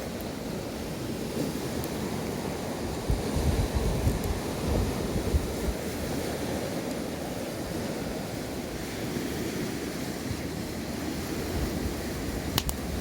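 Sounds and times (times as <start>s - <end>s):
sea waves washing on shore: 0.0s - 13.0s
wind: 0.0s - 13.0s.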